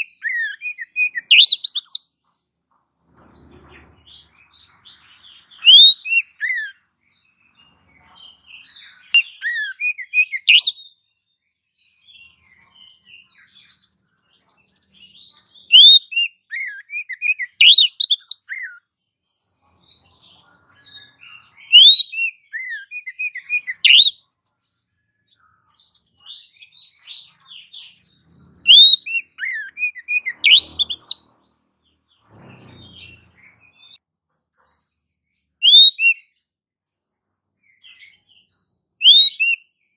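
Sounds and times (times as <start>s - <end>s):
songbird chirping and whistling: 0.0s - 2.2s, 3.4s - 11.0s, 11.7s - 34.0s, 34.6s - 36.5s, 37.6s - 39.9s.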